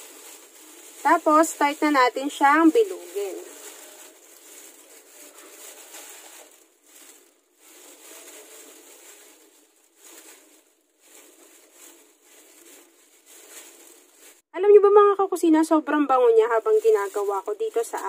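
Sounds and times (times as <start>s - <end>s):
plastic gloves crinkling: 0.0s - 14.5s, 16.2s - 18.0s.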